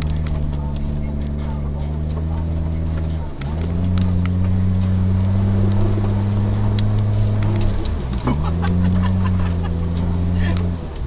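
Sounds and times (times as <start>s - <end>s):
car engine pulling: 0.0s - 11.0s.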